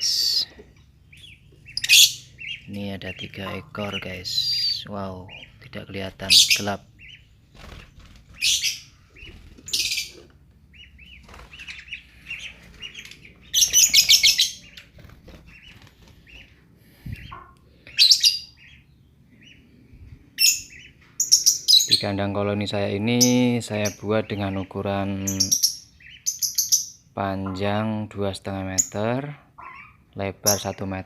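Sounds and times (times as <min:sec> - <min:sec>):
lovebirds chirping: 0:00.0 - 0:31.0.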